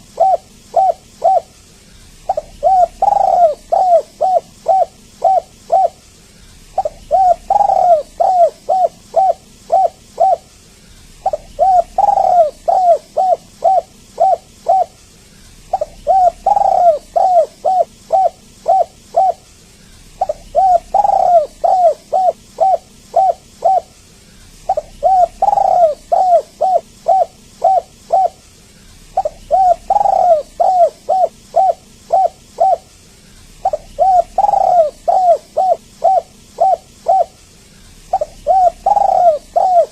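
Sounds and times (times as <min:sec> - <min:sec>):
dove cooing: 0:00.0 - 0:15.0, 0:15.6 - 0:28.4, 0:29.0 - 0:39.9.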